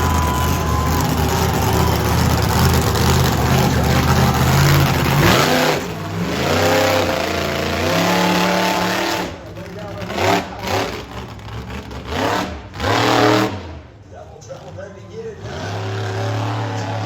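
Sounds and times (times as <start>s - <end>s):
truck engine revving: 0.0s - 14.0s, 15.3s - 17.0s.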